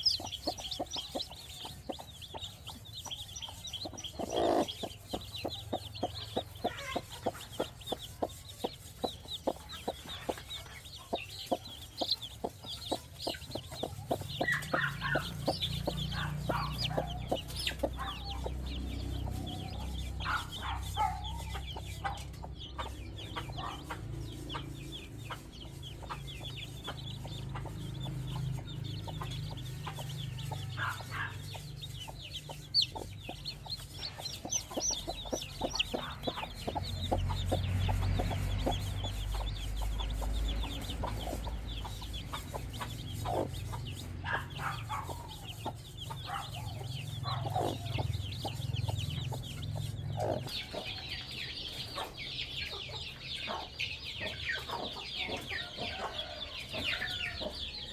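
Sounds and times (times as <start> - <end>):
chickens clucking and peeping: 0.0 - 57.9.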